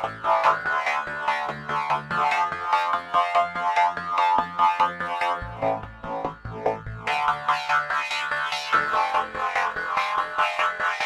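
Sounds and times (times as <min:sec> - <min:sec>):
electronic synthesizer music: 0:00.0 - 0:11.0.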